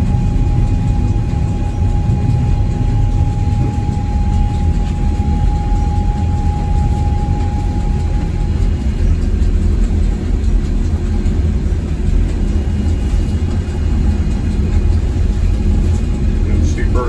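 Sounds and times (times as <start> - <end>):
constant high whine: 0.0 - 17.0
machinery low rumble: 0.0 - 17.0.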